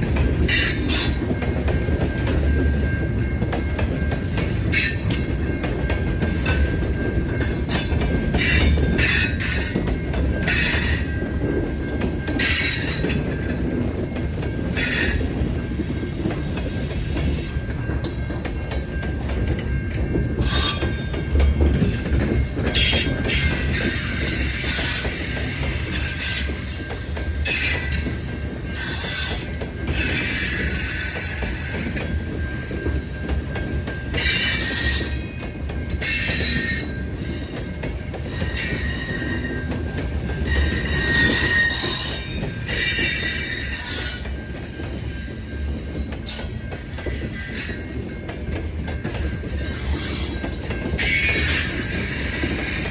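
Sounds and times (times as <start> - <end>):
train cars rumbling: 0.0 - 52.9.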